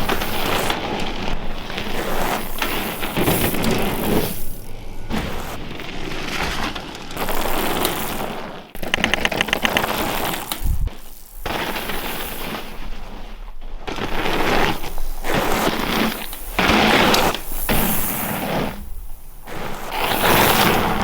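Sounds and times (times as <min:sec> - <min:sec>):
bike tyre and trail noise: 0:00.0 - 0:21.0.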